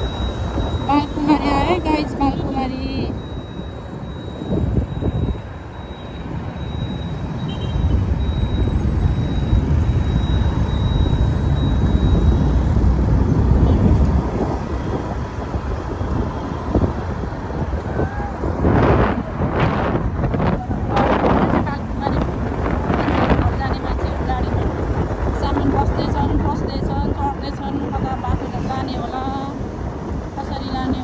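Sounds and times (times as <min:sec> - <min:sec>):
motorcycle riding noise: 0:00.0 - 0:31.0.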